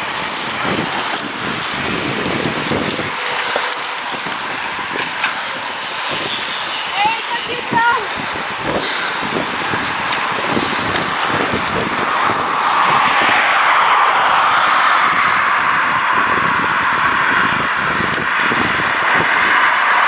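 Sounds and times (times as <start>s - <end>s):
traffic noise: 0.0s - 20.0s
tyre noise on road: 0.0s - 20.0s
wind buffeting microphone: 0.0s - 20.0s.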